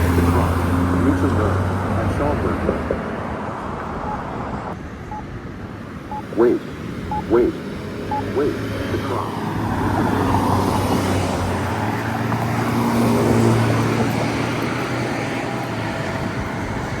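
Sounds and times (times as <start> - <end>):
road traffic rushing: 0.0 - 17.0.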